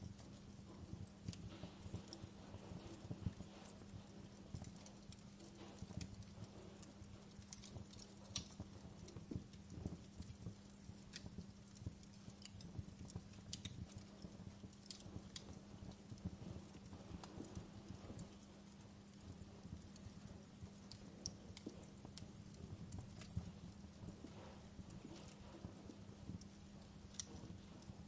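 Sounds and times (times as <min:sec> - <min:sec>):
fire crackling: 0:00.0 - 0:28.0
low rumble of fire: 0:00.0 - 0:28.0
steady low hum: 0:00.0 - 0:28.0.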